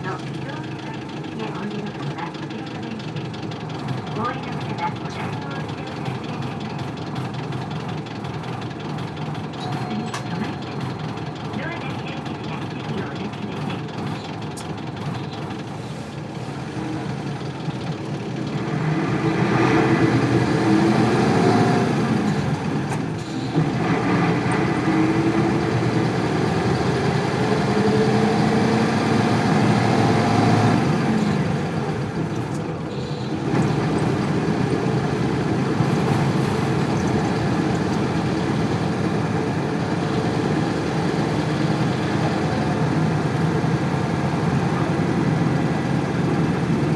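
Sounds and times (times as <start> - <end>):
bus diesel engine accelerating: 0.0 - 46.9.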